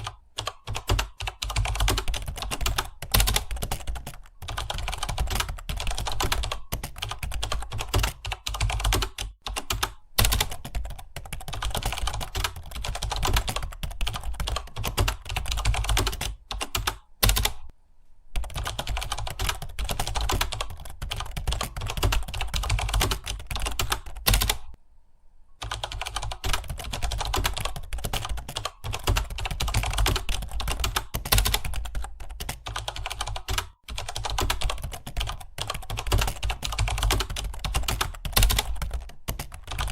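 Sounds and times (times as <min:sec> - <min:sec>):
fast typing on keyboard: 0:00.0 - 0:17.7, 0:18.4 - 0:24.8, 0:25.6 - 0:39.9.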